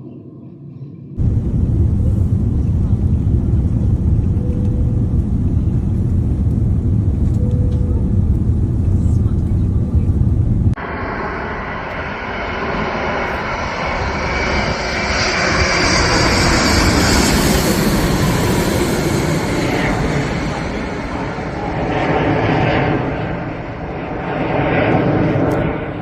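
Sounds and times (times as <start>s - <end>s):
jet engine rushing with whine: 0.0s - 26.0s.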